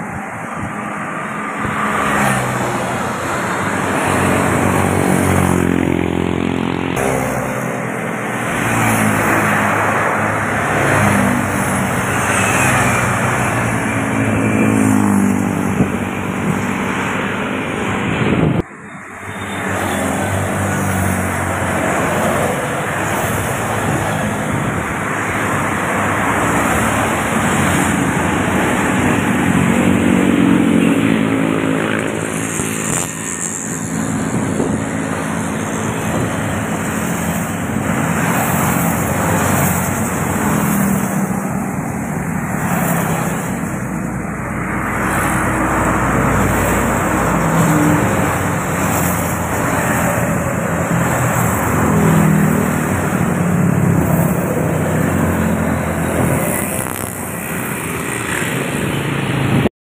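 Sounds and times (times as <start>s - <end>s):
motorcycles passing: 0.0s - 59.7s.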